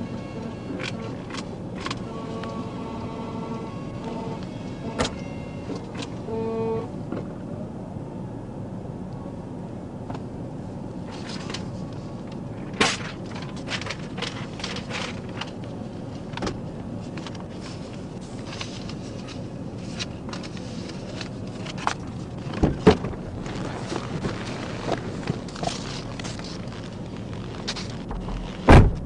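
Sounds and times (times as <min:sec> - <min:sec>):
vehicle idling hum: 0:00.0 - 0:29.0.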